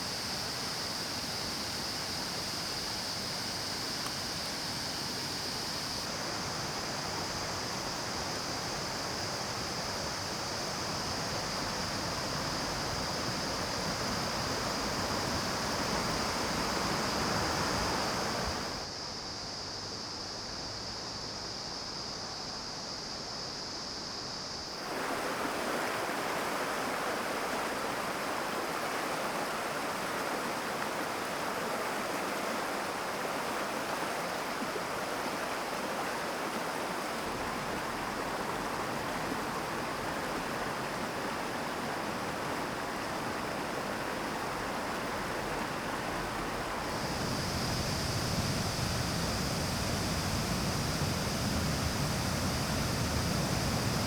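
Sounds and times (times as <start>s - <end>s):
stream rushing over rocks: 0.0s - 18.8s, 24.8s - 54.0s.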